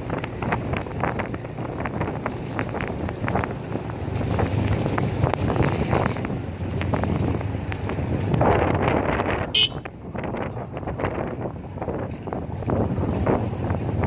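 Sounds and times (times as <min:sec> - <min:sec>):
motorcycle engine hum: 0:00.0 - 0:14.0
wind buffeting microphone: 0:00.0 - 0:14.0.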